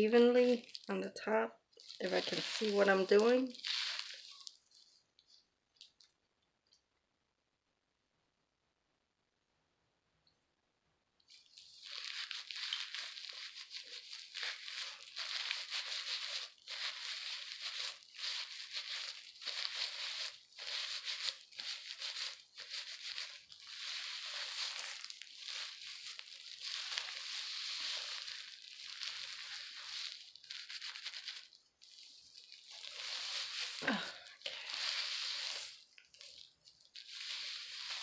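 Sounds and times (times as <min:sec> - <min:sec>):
gloved hands rubbing hair: 0:00.0 - 0:01.2, 0:01.8 - 0:05.3, 0:11.3 - 0:38.0.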